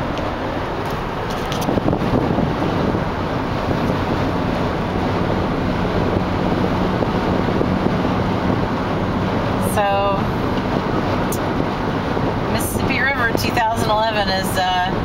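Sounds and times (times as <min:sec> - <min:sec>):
road and tyre noise: 0:00.0 - 0:15.0
wind rush: 0:00.0 - 0:15.0.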